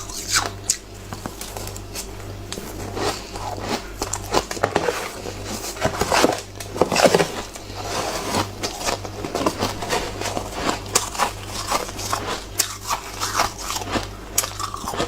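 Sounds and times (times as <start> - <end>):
shaved ice being chewed: 0.0 - 15.0.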